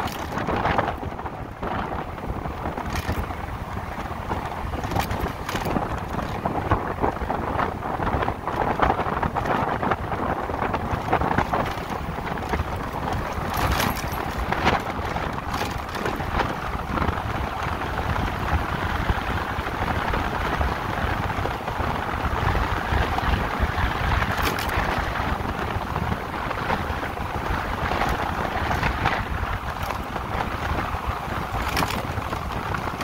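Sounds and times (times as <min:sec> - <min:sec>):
motorcycle road noise: 0:00.0 - 0:33.0
wind buffeting microphone: 0:00.0 - 0:33.0.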